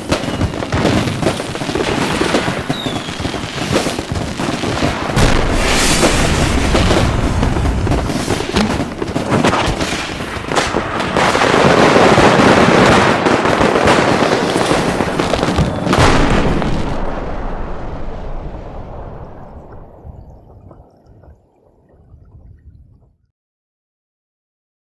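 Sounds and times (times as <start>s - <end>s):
fireworks bangs and crackling: 0.0s - 22.7s.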